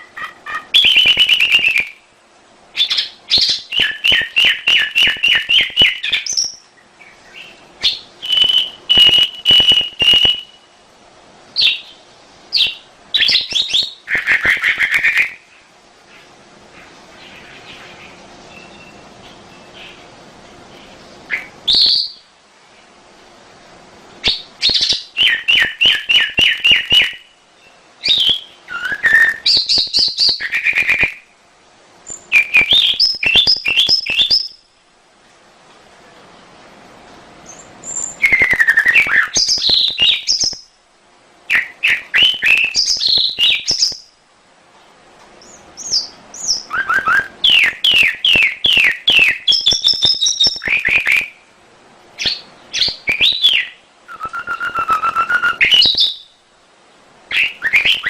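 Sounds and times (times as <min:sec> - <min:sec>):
canary singing: 0:00.0 - 0:02.1, 0:02.7 - 0:10.8, 0:11.6 - 0:22.9, 0:24.2 - 0:31.3, 0:32.0 - 0:34.8, 0:37.5 - 0:40.7, 0:41.5 - 0:44.1, 0:45.4 - 0:51.4, 0:52.2 - 0:56.4, 0:57.3 - 0:58.0.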